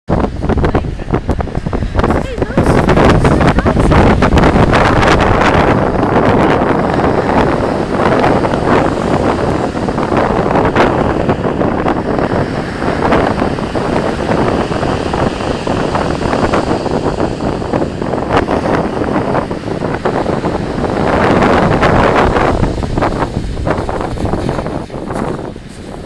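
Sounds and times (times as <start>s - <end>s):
wind buffeting microphone: 0.1s - 26.0s.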